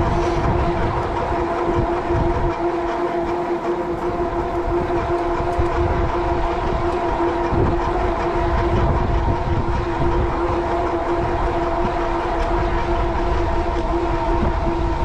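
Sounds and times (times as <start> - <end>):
electric bike whine: 0.0 - 15.0
wind rumbling on microphone: 0.0 - 15.0.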